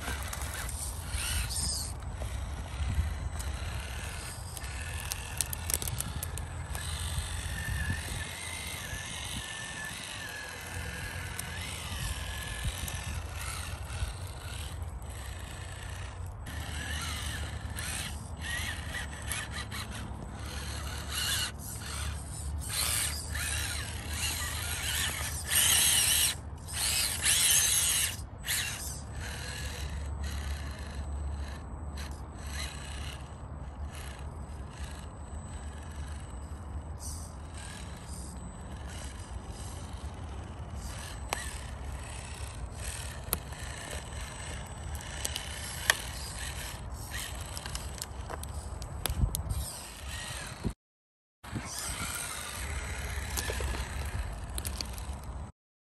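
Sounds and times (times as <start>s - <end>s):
electric motor whining: 0.0s - 50.8s, 51.5s - 55.3s.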